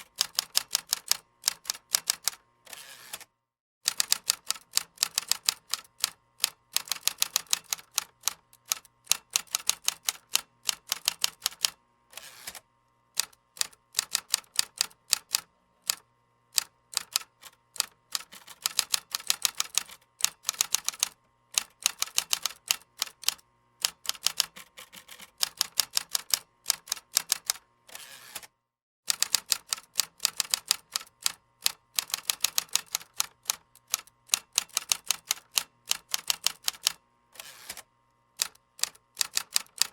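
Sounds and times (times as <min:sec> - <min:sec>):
computer keyboard typing: 0:00.1 - 0:02.4, 0:03.9 - 0:11.8, 0:13.2 - 0:16.0, 0:16.6 - 0:27.6, 0:29.1 - 0:37.0, 0:38.4 - 0:39.9.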